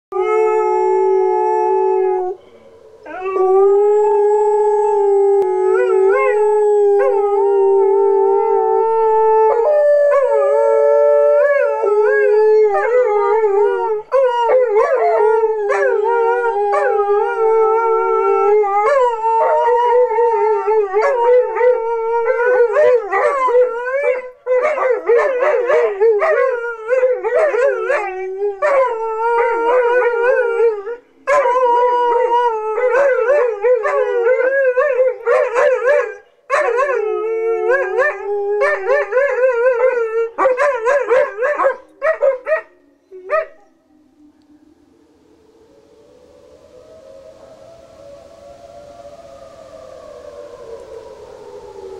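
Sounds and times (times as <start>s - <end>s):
puppies howling: 0.1s - 51.9s.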